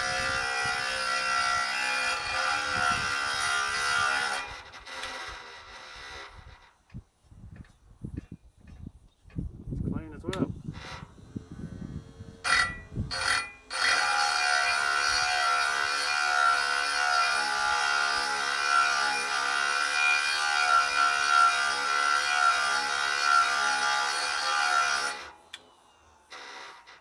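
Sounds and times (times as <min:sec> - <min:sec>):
electric grinder grinding saw tooth: 0:00.0 - 0:06.8, 0:10.6 - 0:27.0.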